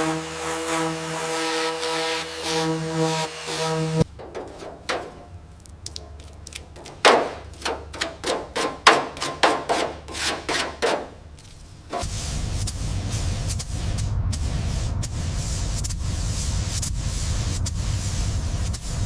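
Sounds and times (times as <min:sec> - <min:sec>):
hand rubbing or scraping strokes: 0:00.0 - 0:19.0.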